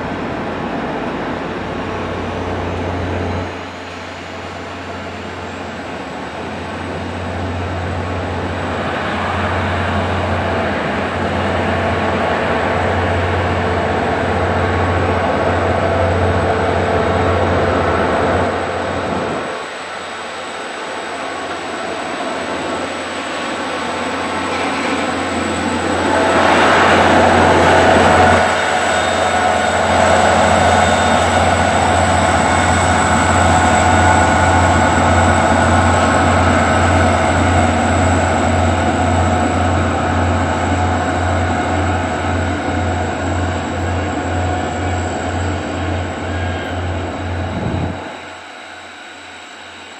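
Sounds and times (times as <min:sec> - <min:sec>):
passenger train running past: 0:00.0 - 0:49.9.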